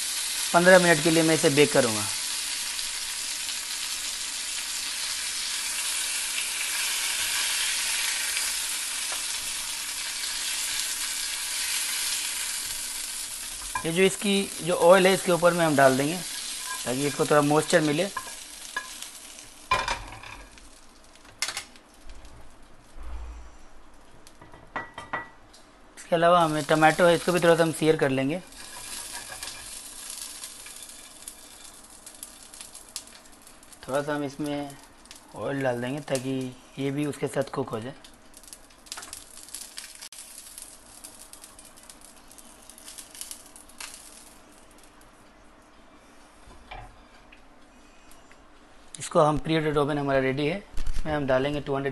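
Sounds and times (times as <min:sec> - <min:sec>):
tomatoes sizzling in oil: 0:00.0 - 0:22.4, 0:26.0 - 0:45.2.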